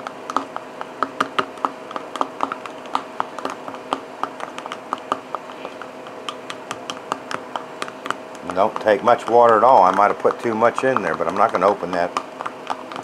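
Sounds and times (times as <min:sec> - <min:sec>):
fingers crumbling dried cubes: 0:00.0 - 0:13.0.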